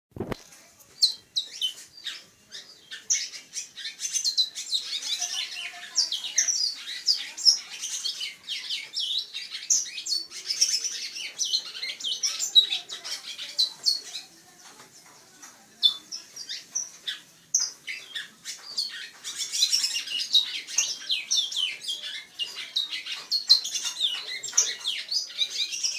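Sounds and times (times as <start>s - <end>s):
songbird chirping and trilling: 0.2s - 25.9s.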